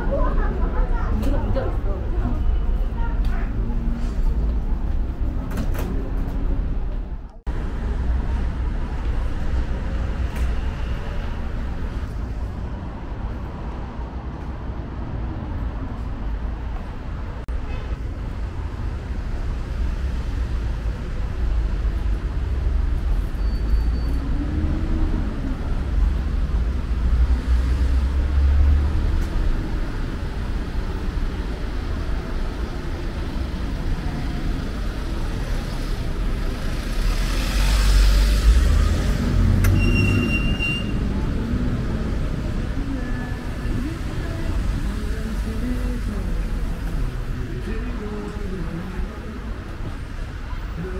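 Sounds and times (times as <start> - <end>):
cars passing: 0.0 - 50.9.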